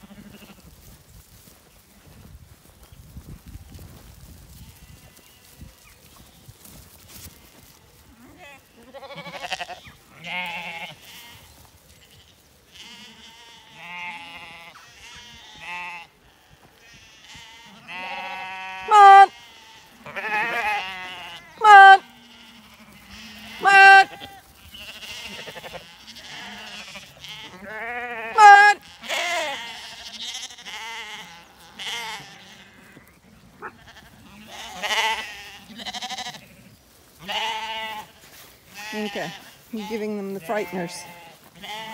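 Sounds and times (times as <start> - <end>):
sheep bleating: 0.0 - 0.6, 4.6 - 6.4, 7.4 - 41.9.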